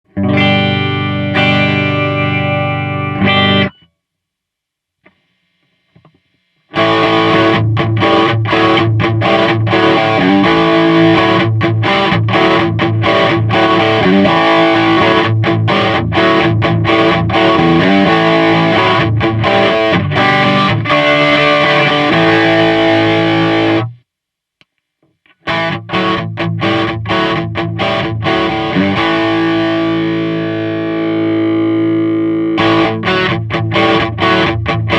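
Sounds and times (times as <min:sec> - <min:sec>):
distorted electric guitar: 0:00.0 - 0:03.9, 0:05.0 - 0:24.0, 0:25.1 - 0:34.9.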